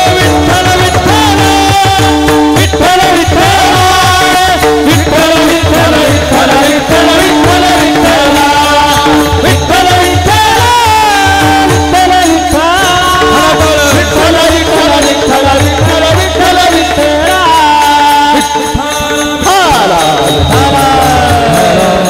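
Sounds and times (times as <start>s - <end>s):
people singing: 0.0s - 22.0s.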